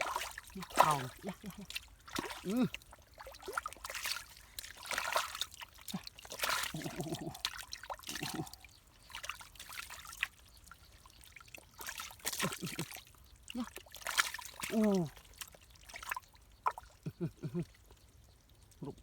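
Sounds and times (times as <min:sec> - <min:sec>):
muddy water splashing: 0:00.0 - 0:19.0.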